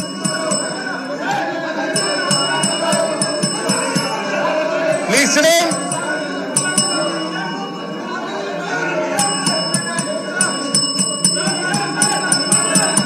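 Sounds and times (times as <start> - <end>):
bell ringing: 0.0 - 13.0
crowd shouting over one another: 0.0 - 13.0.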